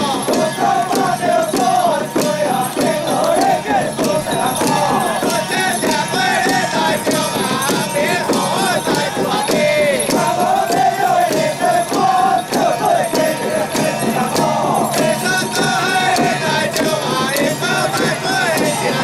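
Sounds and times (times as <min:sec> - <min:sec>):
frame drums beaten rhythmically: 0:00.0 - 0:19.0
jingling bell: 0:00.0 - 0:19.0
wavering voices: 0:00.0 - 0:19.0.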